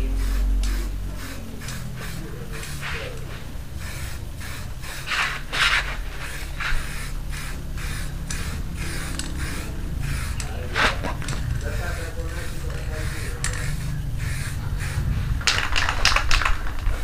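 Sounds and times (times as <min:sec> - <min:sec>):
spray paint can hissing: 0:00.0 - 0:17.0.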